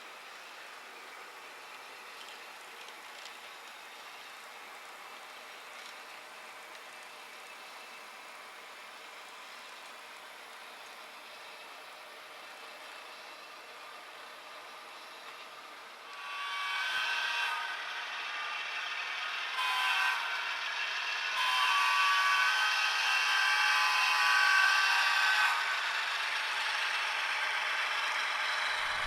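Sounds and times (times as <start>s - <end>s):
model train clatter and whir: 0.0s - 29.0s.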